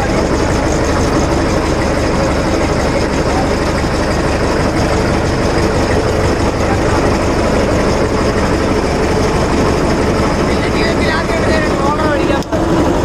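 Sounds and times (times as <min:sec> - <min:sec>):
road roller diesel engine rumbling: 0:00.0 - 0:13.0.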